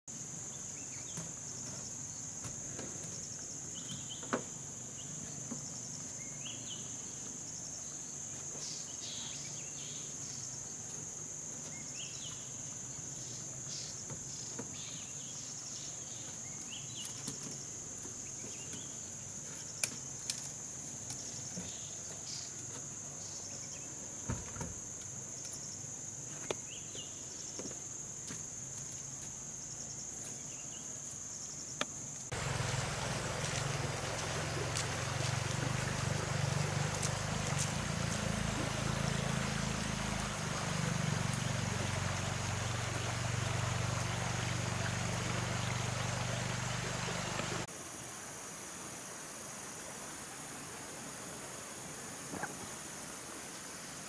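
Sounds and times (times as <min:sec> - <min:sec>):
insect chorus drone: 0:00.1 - 0:54.0.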